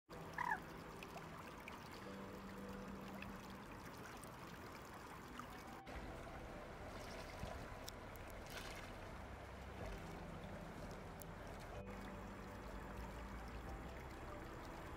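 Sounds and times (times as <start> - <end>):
stream water trickling: 0.1 - 14.9.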